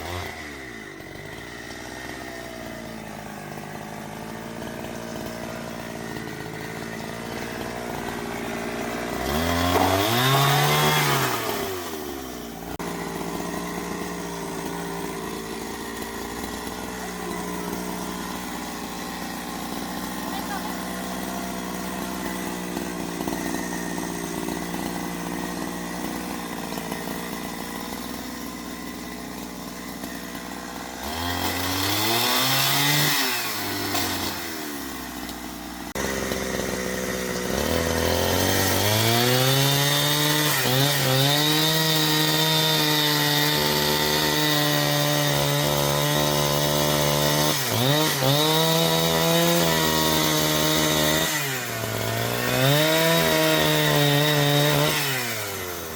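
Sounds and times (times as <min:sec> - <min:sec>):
chainsaw revving and cutting wood: 0:00.0 - 0:55.9.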